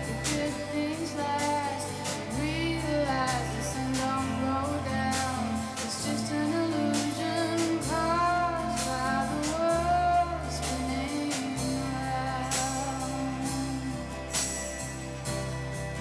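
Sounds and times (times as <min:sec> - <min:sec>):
person singing: 0:00.0 - 0:14.4
held bass notes: 0:00.0 - 0:16.0.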